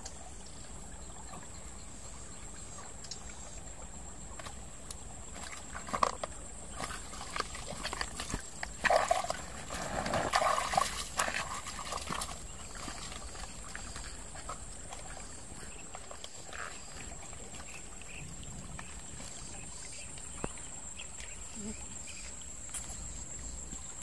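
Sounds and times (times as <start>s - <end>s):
shallow stream trickling: 0.0s - 24.0s.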